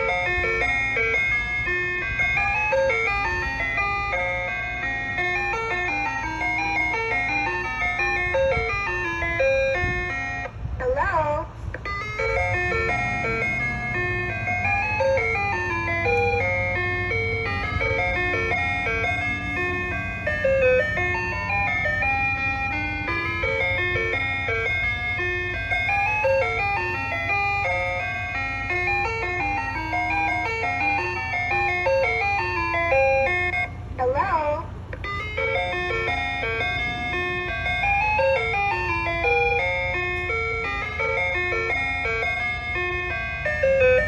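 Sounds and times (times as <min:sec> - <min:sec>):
ice cream truck jingle: 0:00.0 - 0:44.0.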